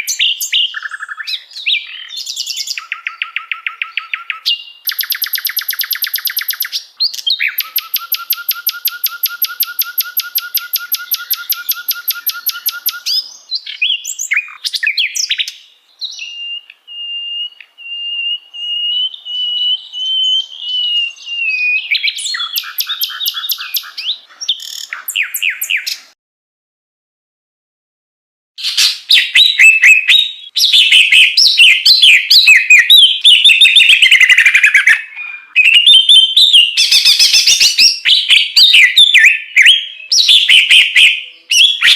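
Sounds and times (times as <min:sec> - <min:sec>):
songbird singing: 0:00.0 - 0:26.2, 0:28.6 - 0:41.9.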